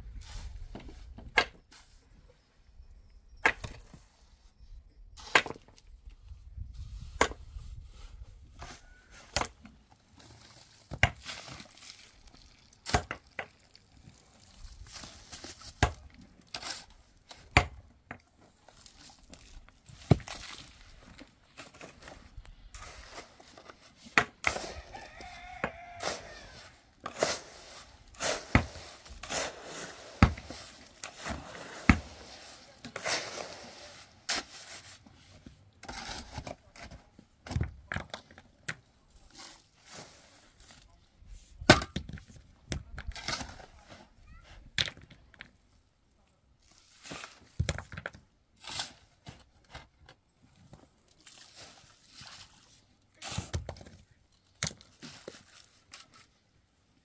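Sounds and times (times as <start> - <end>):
rustling and crinkling: 5.2 - 45.9, 46.5 - 57.0.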